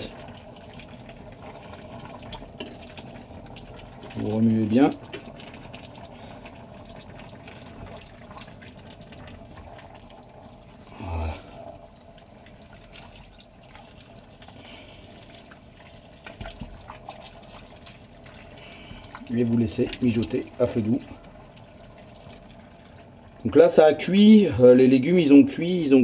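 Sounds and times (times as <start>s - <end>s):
pot simmering: 0.0s - 26.0s.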